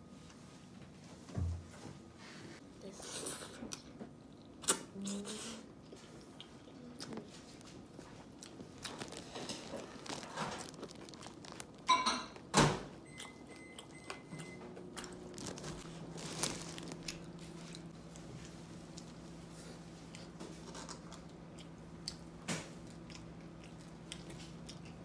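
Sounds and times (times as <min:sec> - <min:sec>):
low steady hum: 0:00.0 - 0:25.0
chewing: 0:03.0 - 0:25.0.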